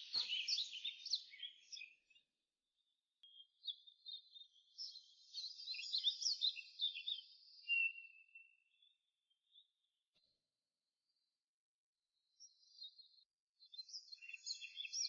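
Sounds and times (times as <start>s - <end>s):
small birds chirping: 0.0s - 2.3s, 3.2s - 10.4s, 12.3s - 15.0s.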